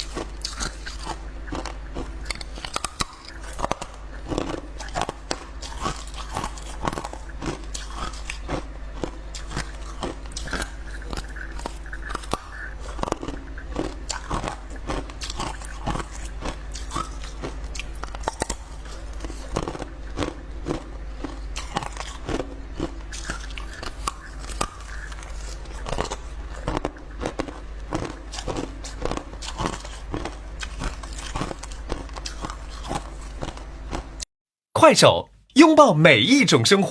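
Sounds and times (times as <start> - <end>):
person chewing ice: 0.0 - 34.3.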